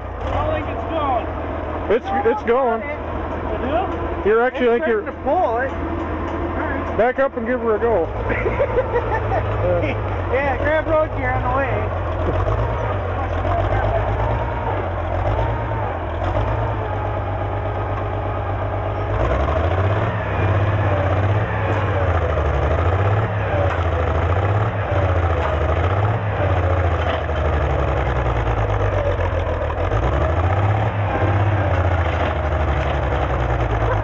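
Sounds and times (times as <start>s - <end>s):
tractor engine labouring: 0.0s - 34.0s.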